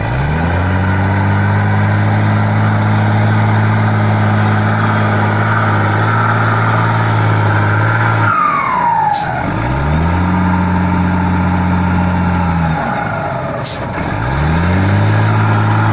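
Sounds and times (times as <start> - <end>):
diesel engine revving: 0.0 - 15.9.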